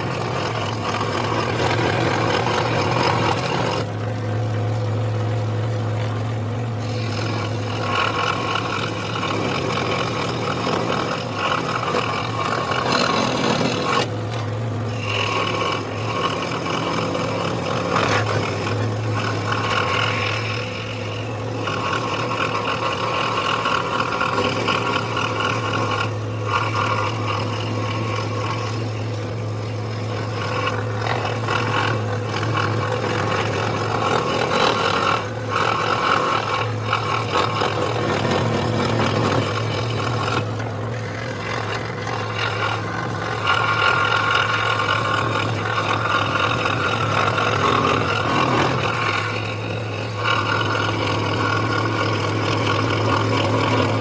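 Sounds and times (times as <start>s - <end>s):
saw blade cutting wood: 0.0s - 54.0s
scroll saw motor hum: 0.0s - 54.0s.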